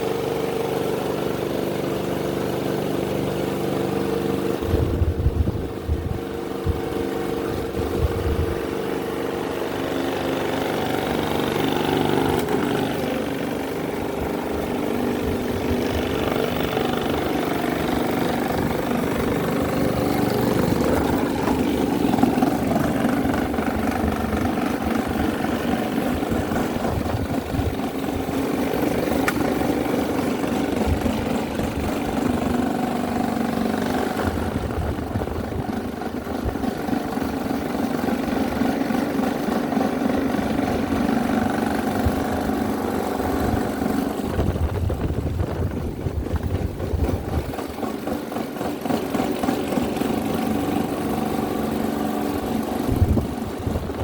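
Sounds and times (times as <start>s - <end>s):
electric fans whirring: 0.0s - 54.0s.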